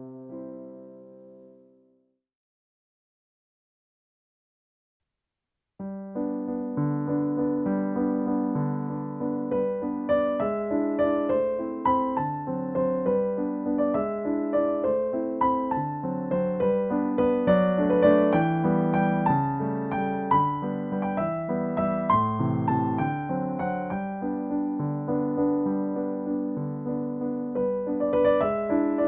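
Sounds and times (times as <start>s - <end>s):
background piano music: 0.0s - 1.9s, 5.8s - 29.0s.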